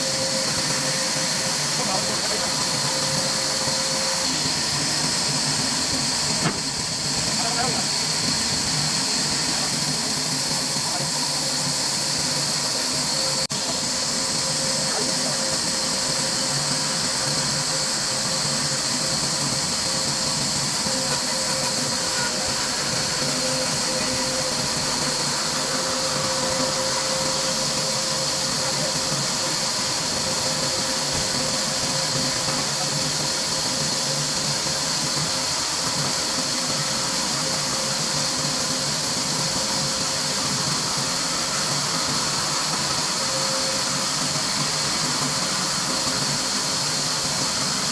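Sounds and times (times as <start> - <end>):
machine hiss: 0.0 - 47.9.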